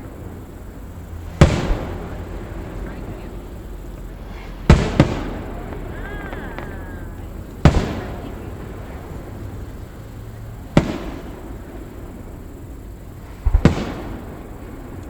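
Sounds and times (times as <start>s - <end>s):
firework booms: 0.0s - 15.0s
low rumble: 0.0s - 15.0s.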